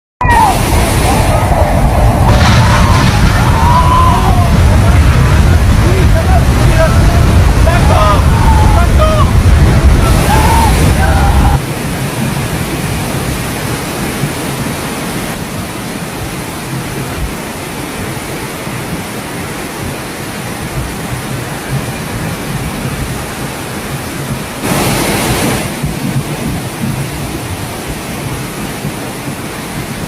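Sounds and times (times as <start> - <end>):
turbulent floodwater rushing: 0.2 - 30.0.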